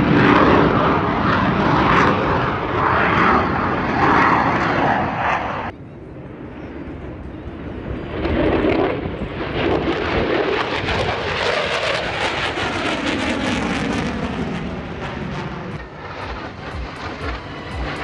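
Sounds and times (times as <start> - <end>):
airplane flying past: 0.0 - 18.0.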